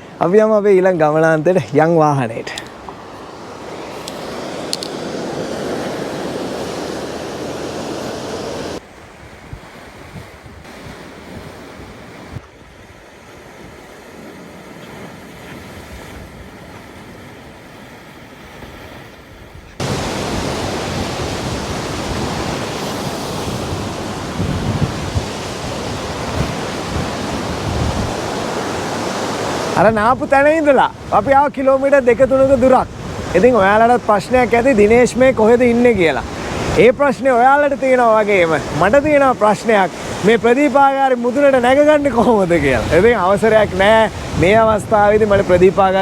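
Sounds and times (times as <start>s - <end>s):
sea surf: 0.0s - 46.0s
wind: 0.0s - 46.0s.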